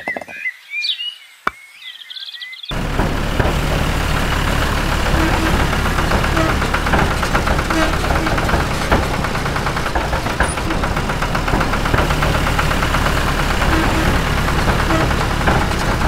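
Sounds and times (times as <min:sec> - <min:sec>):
small engine knocking: 0:02.7 - 0:16.0.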